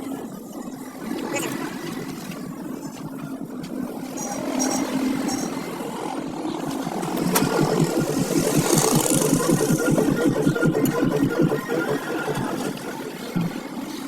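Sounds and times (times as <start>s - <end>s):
engine running: 1.0s - 14.0s.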